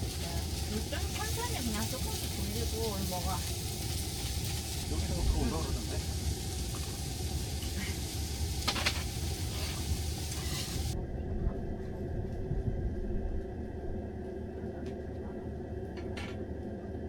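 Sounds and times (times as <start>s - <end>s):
low rumble: 0.0s - 17.0s
steady sizzling hiss: 0.0s - 17.0s.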